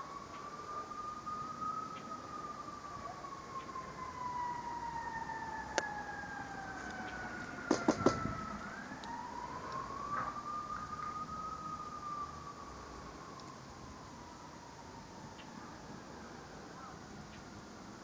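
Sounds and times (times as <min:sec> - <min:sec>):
distant siren wailing: 0:00.0 - 0:18.0.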